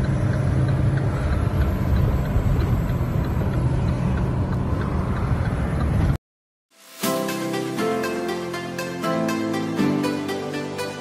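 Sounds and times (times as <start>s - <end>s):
truck engine and road noise: 0.0s - 6.2s, 6.8s - 11.0s.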